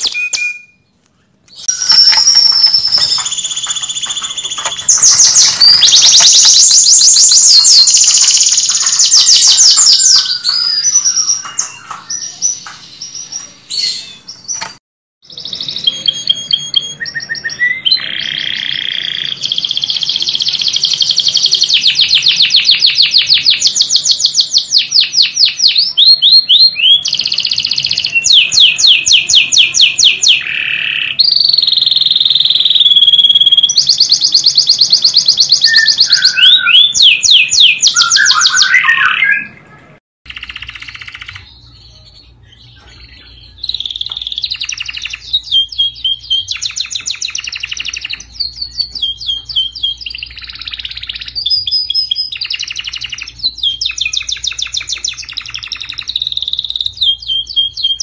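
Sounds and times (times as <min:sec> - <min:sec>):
canary singing trills: 0:00.0 - 0:39.6, 0:40.3 - 0:58.0.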